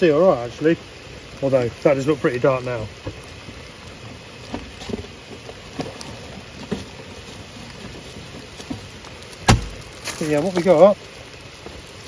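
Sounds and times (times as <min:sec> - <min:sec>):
hard rain falling: 0:00.0 - 0:12.0.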